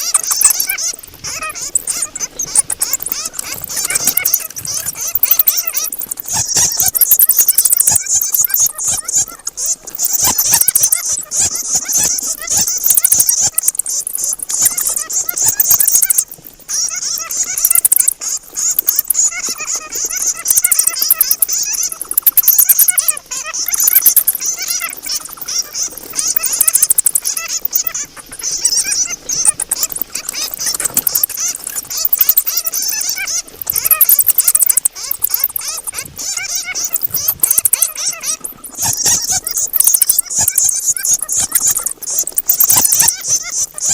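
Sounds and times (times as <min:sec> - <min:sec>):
bats squeaking and chattering: 0:00.0 - 0:43.9.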